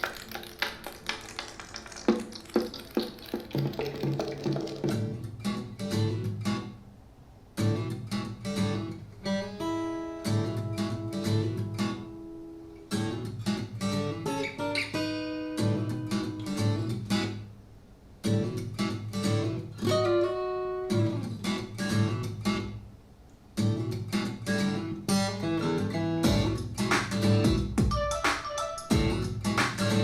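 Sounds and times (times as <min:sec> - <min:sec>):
acoustic guitar strumming: 0:02.1 - 0:06.8, 0:07.6 - 0:17.5, 0:18.2 - 0:22.8, 0:23.6 - 0:30.0.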